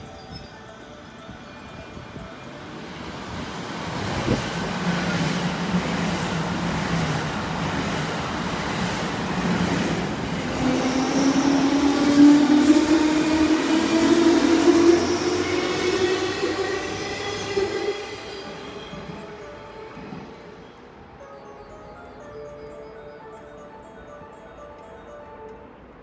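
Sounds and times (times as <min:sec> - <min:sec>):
electric train rushing past: 0:01.0 - 0:24.9.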